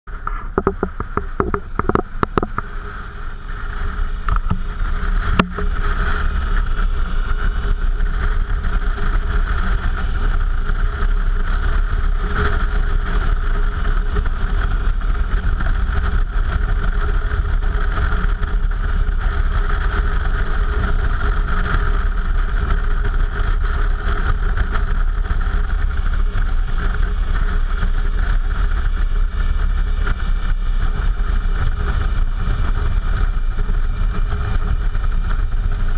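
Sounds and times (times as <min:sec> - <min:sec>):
motorcycle engine drone: 0:00.0 - 0:35.9
wind rush on microphone: 0:00.1 - 0:35.9.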